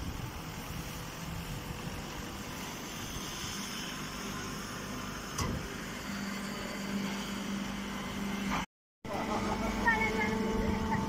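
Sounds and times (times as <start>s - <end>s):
baler machine humming: 0.0s - 11.0s.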